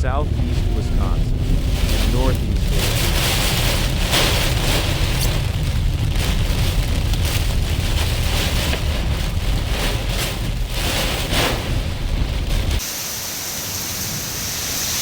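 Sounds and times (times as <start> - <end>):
wind buffeting microphone: 0.0 - 12.8
heavy rain hissing: 0.0 - 15.0.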